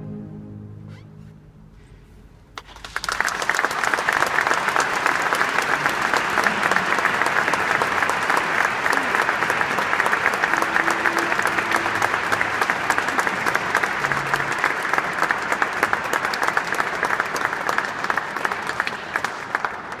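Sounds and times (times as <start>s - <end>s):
audience applauding: 2.6s - 20.0s.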